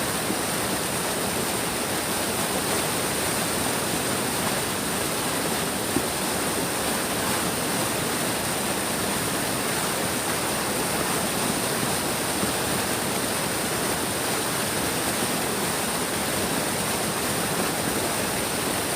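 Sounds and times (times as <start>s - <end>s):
stream water rushing: 0.0s - 18.9s.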